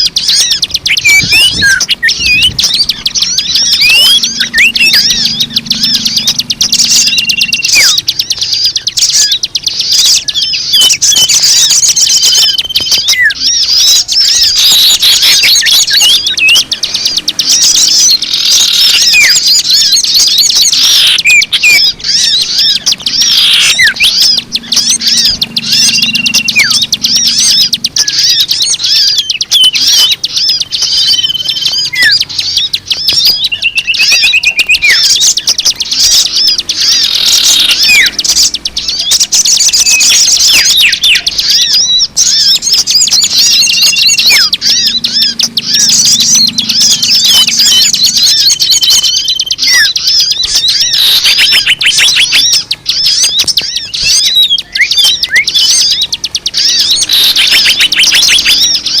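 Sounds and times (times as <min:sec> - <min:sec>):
chorus of small birds chirping: 0:00.0 - 0:59.0.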